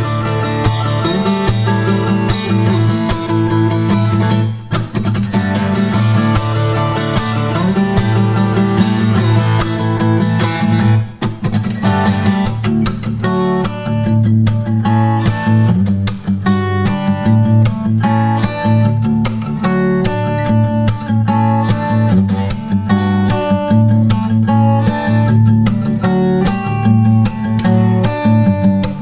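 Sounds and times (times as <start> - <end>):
guitar background music: 0.0 - 29.0.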